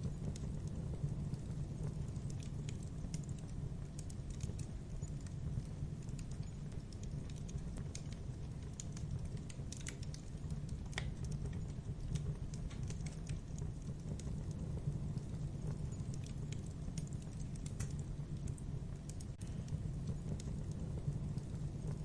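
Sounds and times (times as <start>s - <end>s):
logs crackling in fireplace: 0.0s - 22.0s.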